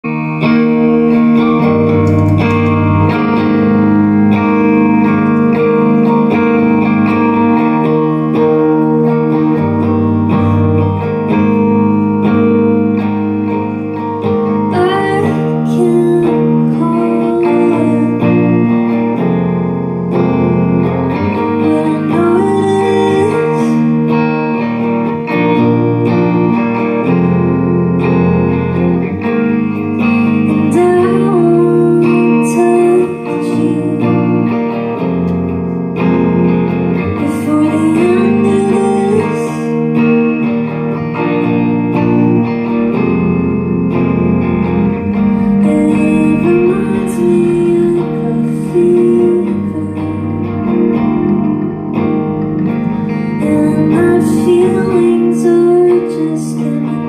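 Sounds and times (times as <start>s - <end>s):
electric guitars: 0.0s - 57.0s.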